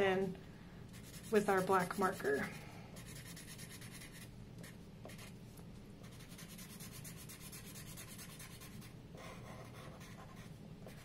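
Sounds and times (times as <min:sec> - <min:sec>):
marker scribbling on paper: 0:00.9 - 0:05.3, 0:06.0 - 0:11.0.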